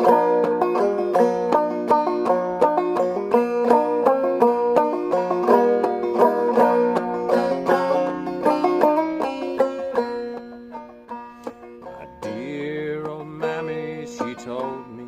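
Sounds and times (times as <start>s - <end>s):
banjo picking: 0.0s - 15.0s.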